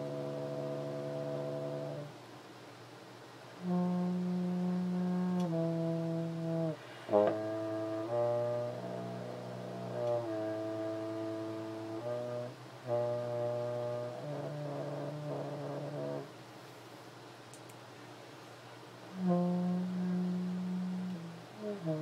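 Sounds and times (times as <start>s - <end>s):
brass instrument low held notes: 0.0s - 2.2s, 3.5s - 16.4s, 19.1s - 22.0s.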